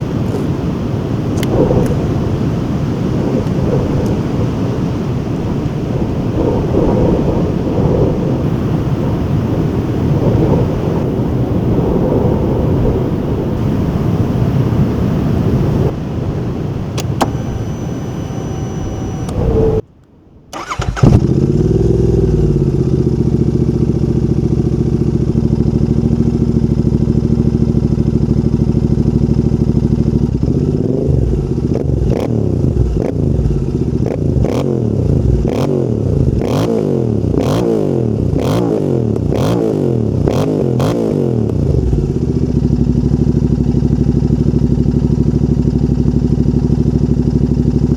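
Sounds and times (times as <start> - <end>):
motorcycle engine idling and revving: 0.0 - 19.8, 20.6 - 47.9
exhaust cracks: 0.0 - 47.9.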